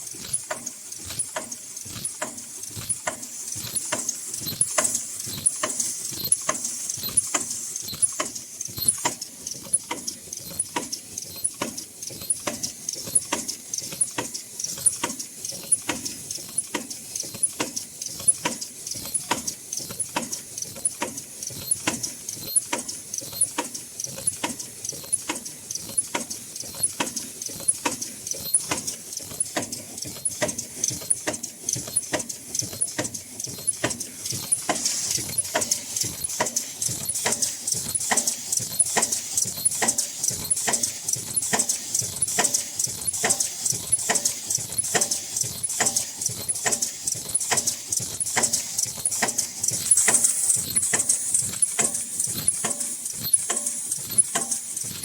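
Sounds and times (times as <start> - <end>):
mask production machine running: 0.0 - 55.0
rapid mechanical clicks: 0.0 - 55.0.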